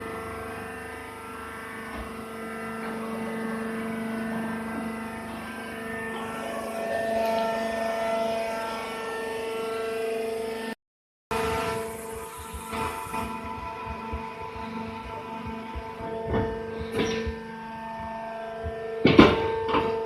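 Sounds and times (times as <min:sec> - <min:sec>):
baling machine running: 0:00.0 - 0:20.0.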